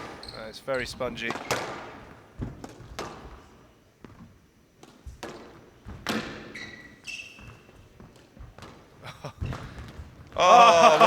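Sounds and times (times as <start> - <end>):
shoes squeaking on floor: 0.0 - 10.9
squash ball impacts: 1.2 - 10.4.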